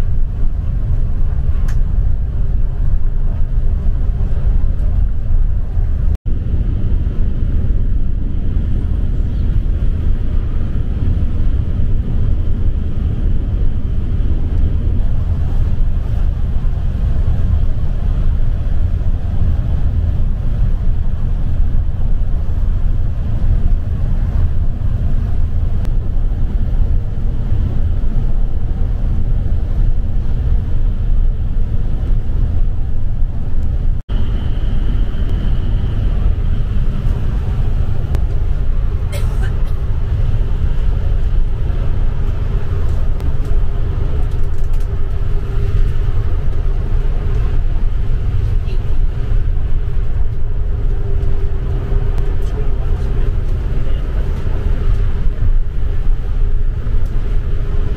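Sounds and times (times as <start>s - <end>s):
bus engine and tyres rumbling: 0.0s - 57.9s.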